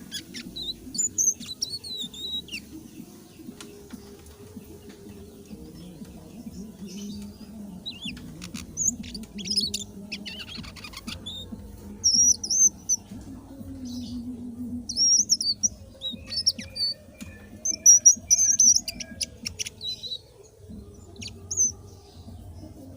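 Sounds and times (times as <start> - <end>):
bird singing warbling phrases: 0.0 - 22.9.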